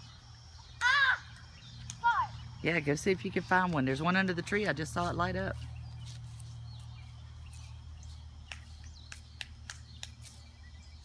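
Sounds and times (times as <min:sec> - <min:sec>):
bird chirping: 0:00.0 - 0:03.2, 0:05.0 - 0:11.0.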